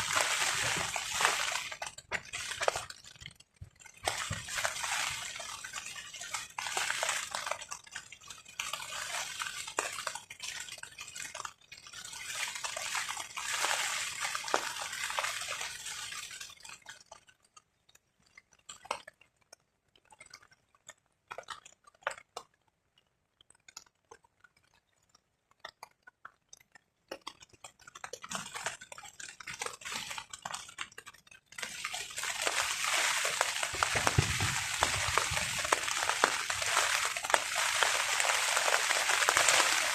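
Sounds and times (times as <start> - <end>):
rain pattering on tarp: 0.0 - 22.6, 26.4 - 39.9.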